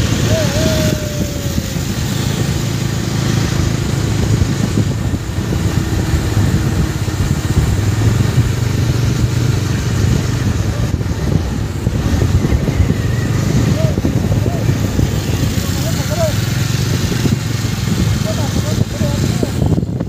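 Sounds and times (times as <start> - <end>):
motorcycle engine running: 0.0 - 20.0
wind rumble on microphone: 0.0 - 20.0.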